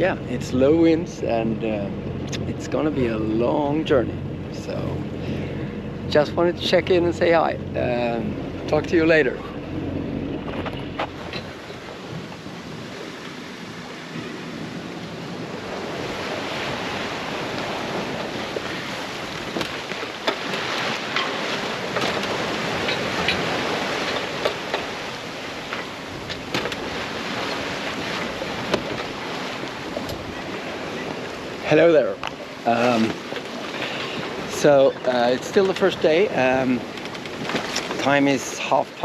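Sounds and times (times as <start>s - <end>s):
wind on microphone: 0.0s - 31.6s
water splashing along hull: 0.0s - 39.0s.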